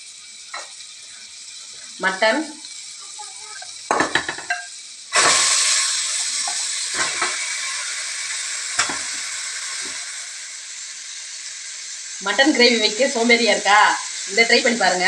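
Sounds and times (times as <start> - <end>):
meat sizzling in butter: 0.0 - 15.0.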